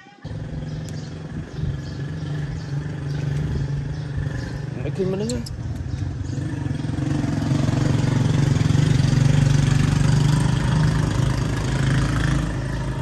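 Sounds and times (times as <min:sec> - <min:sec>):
engine running: 0:00.2 - 0:13.0.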